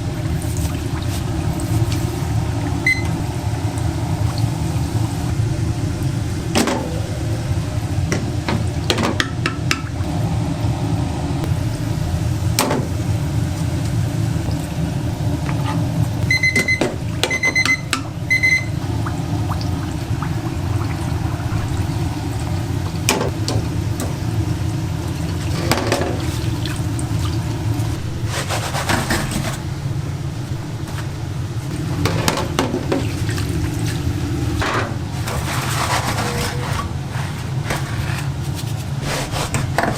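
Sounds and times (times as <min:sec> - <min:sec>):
kitchen machinery humming: 0:00.0 - 0:39.9.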